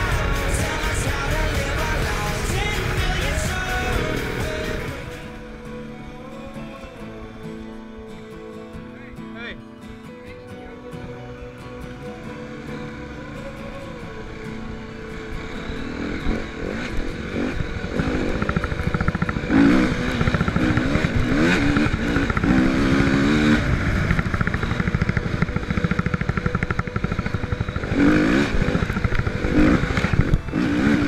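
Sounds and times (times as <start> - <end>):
dirt bike engine revving: 0.0 - 8.0, 11.2 - 31.0.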